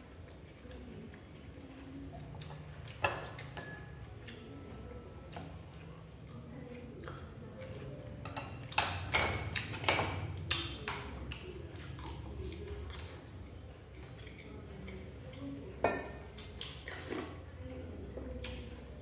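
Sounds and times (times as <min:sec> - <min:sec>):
soft eating sounds: 0:00.0 - 0:19.0.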